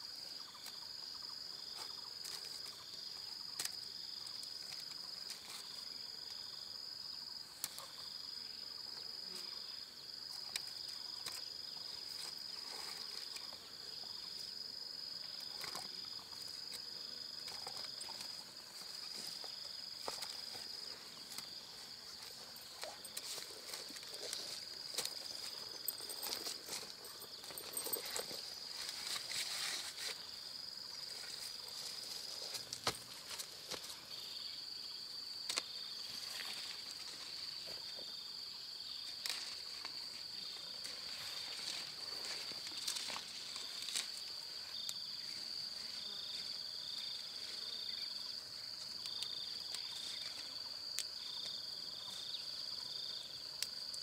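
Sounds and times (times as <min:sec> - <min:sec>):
insect high-pitched trill: 0:00.0 - 0:54.0
lower insect call pulsing: 0:00.0 - 0:54.0.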